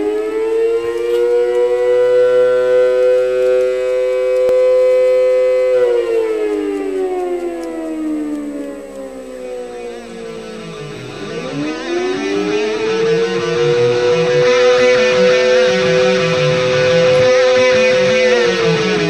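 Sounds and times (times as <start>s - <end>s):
mechanical air-raid siren: 0.0s - 19.0s.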